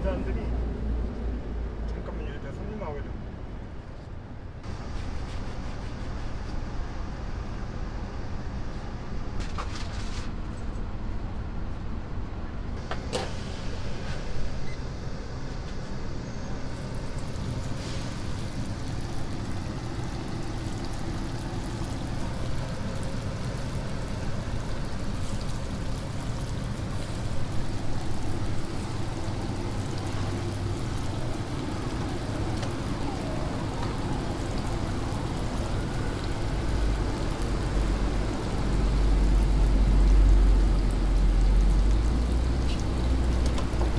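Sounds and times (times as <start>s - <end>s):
oil sizzling and bubbling: 4.6s - 10.0s, 12.8s - 43.9s.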